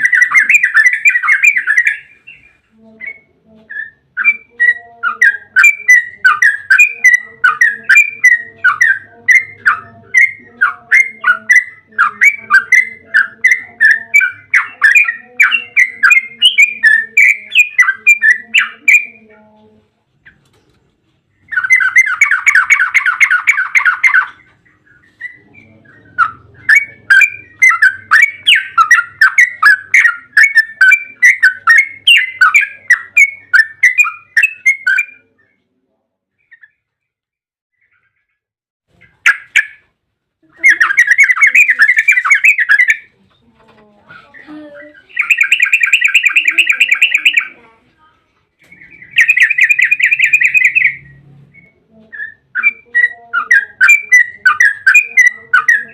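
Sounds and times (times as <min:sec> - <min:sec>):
bird rapid trilling: 0:00.0 - 0:19.3, 0:21.4 - 0:35.2, 0:40.6 - 0:43.2, 0:44.3 - 0:47.6, 0:48.6 - 0:55.9
bird chattering chirps: 0:00.0 - 0:19.4, 0:21.4 - 0:35.6, 0:38.9 - 0:39.9, 0:40.6 - 0:43.5, 0:44.2 - 0:47.8, 0:48.6 - 0:55.9.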